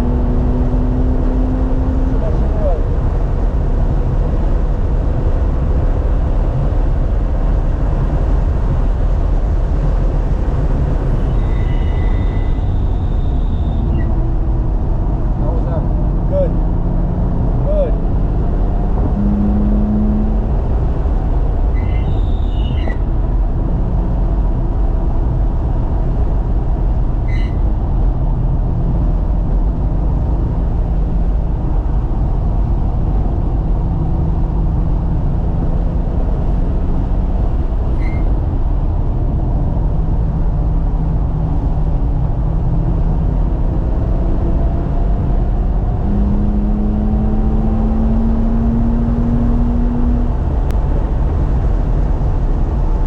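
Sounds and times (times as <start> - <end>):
car engine accelerating: 0.0 - 11.5, 12.2 - 21.7, 23.1 - 53.0
road and wind noise: 0.0 - 53.0.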